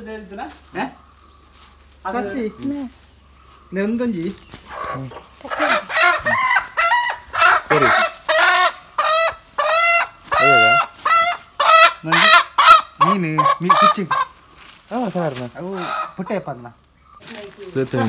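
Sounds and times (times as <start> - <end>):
chicken calling: 0.7 - 14.6, 15.6 - 17.3.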